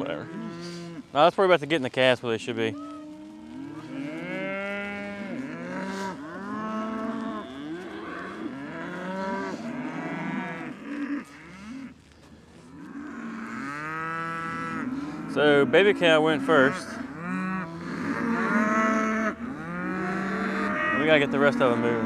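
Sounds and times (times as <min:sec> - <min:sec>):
cattle mooing: 0:00.0 - 0:01.1, 0:02.8 - 0:22.0.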